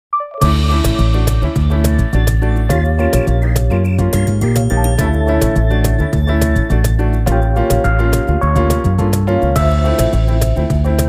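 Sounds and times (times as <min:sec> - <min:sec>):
music with bass and beat: 0:00.4 - 0:11.0.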